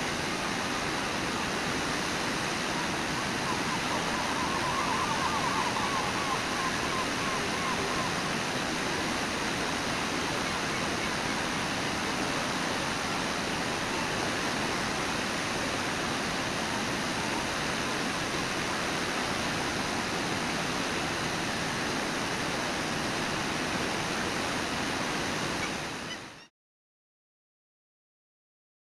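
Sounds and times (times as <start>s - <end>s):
waterfall rushing: 0.0s - 26.4s.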